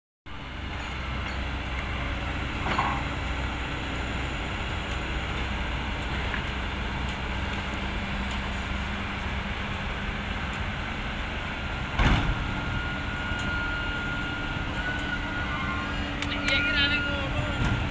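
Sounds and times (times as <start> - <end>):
excavator diesel engine running: 0.3 - 17.9.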